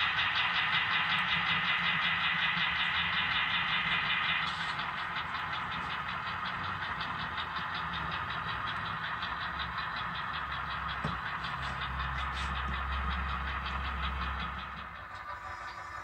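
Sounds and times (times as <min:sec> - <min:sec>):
fast even ticking: 0:00.0 - 0:15.0
model train whirring hum: 0:00.0 - 0:16.0.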